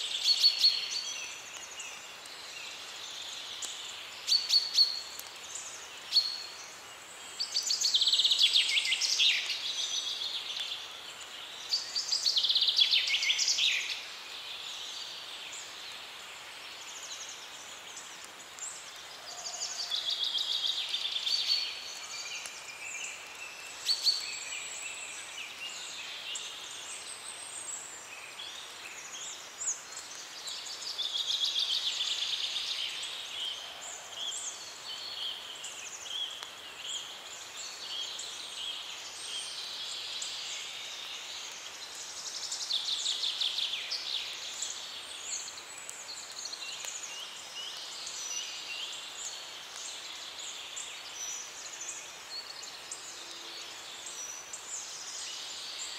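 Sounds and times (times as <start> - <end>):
songbirds singing and chirping: 0.0 - 55.9
steady background hiss: 0.0 - 55.9.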